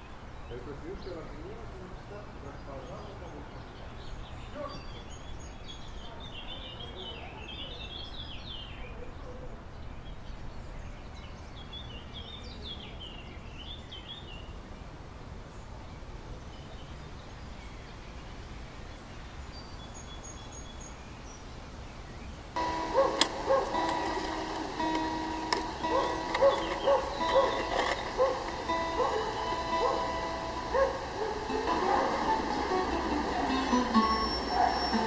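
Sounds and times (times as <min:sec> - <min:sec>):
small birds twittering: 0:00.0 - 0:35.0.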